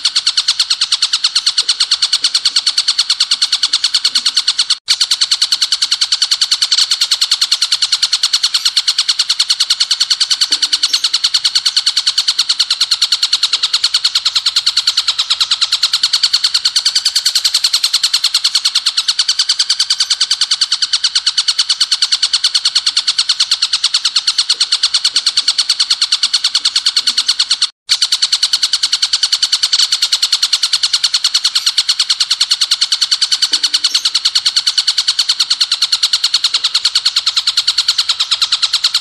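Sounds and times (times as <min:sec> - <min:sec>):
bird singing rapid high notes: 0:00.0 - 0:04.8, 0:06.6 - 0:27.6, 0:30.4 - 0:39.0.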